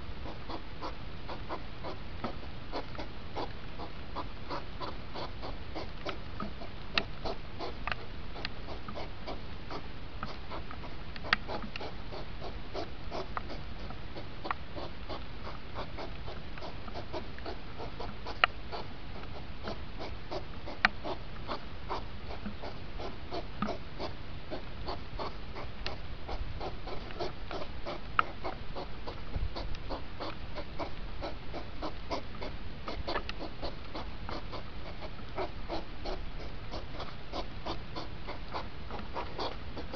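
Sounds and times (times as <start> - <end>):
hedgehogs snorting and huffing: 0.2 - 39.9.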